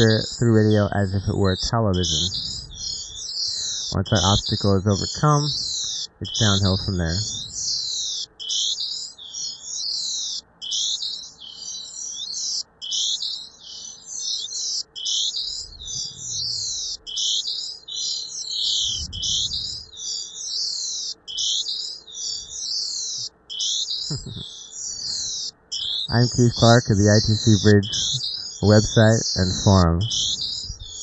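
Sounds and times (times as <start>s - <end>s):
hissing chirping high tones: 0.0s - 8.8s, 13.8s - 31.0s.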